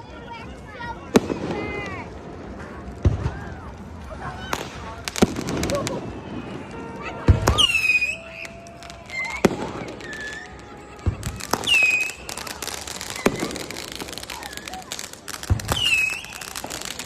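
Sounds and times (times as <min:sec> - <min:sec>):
fireworks bangs: 0:01.0 - 0:17.0.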